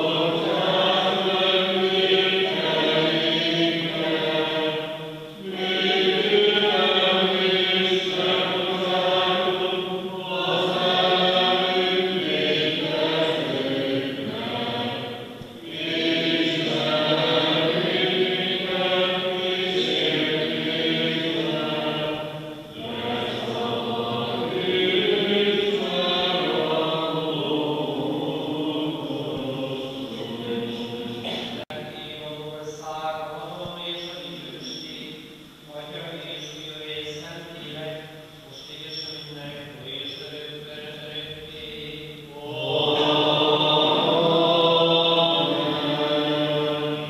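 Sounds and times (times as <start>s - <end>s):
voices singing liturgical chant: 0.0s - 47.0s.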